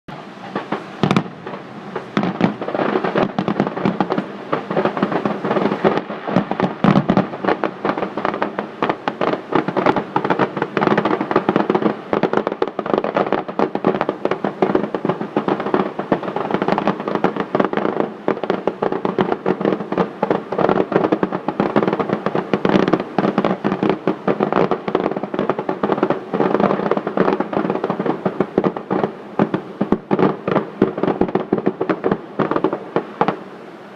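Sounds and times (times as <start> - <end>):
fireworks bangs and crackling: 0.1 - 33.9.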